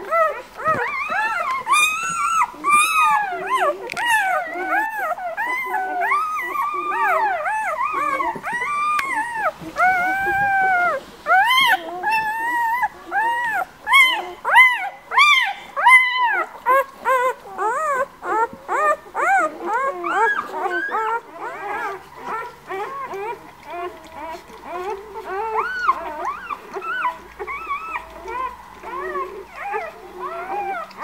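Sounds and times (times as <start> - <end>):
puppies squealing and whining: 0.0 - 31.0.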